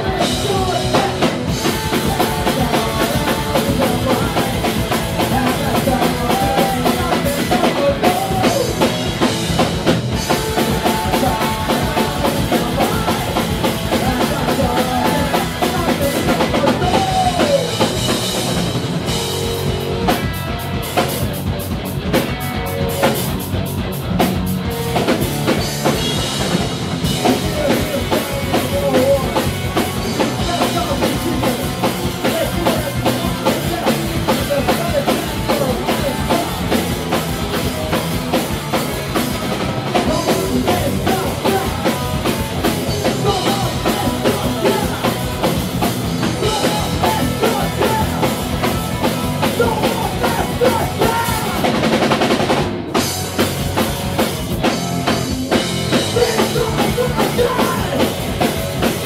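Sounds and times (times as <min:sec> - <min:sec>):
loud electric guitars: 0:00.0 - 0:59.0
pounding drum kit: 0:00.0 - 0:59.0.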